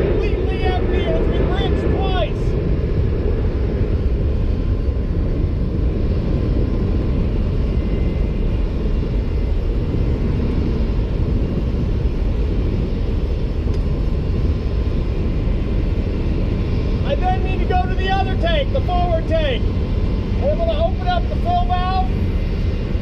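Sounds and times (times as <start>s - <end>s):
machinery rumbling: 0.0s - 23.0s.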